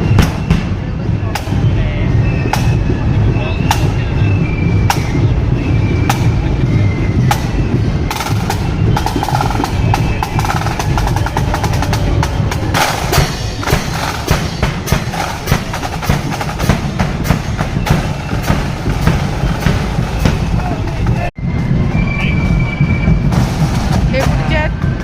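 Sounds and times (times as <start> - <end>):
bass drum beats: 0.0 - 25.0
snare drum strokes and rolls: 0.0 - 25.0.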